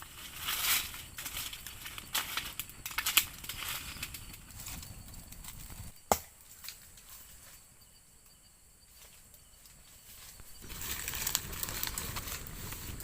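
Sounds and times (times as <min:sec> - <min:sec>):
faint insect calls: 0:00.0 - 0:13.0.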